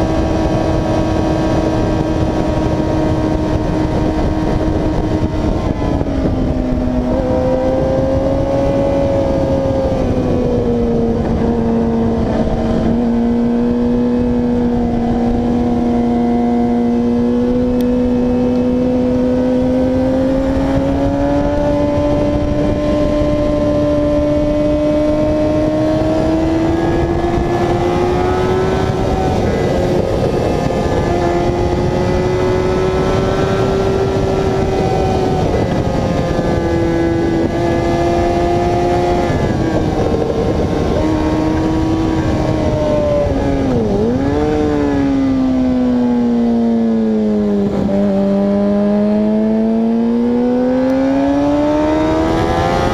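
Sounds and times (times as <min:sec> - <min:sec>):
motorcycle engine at speed: 0:00.0 - 0:52.9
wind rush: 0:00.0 - 0:52.9.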